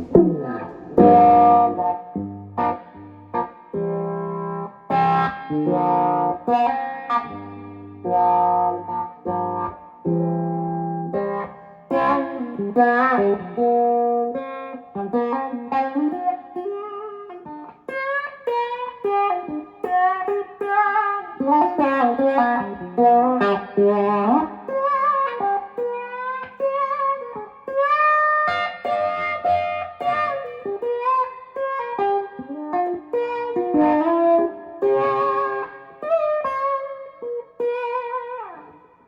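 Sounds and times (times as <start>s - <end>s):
electric guitar through wah pedal: 0.0s - 39.0s.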